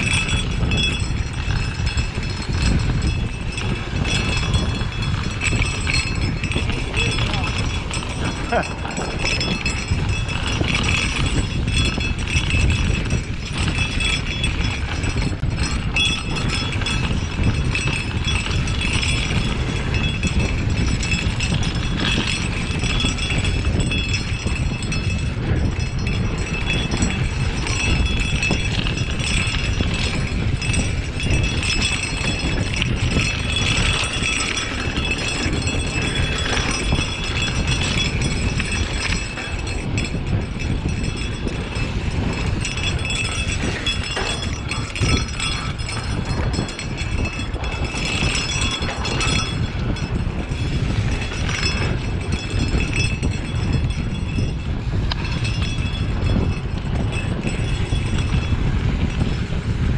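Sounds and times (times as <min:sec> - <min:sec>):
bike chain rattling: 0:00.0 - 0:59.9
bike tyres rumbling over dirt: 0:00.0 - 0:59.9
wind on camera: 0:00.0 - 0:59.9.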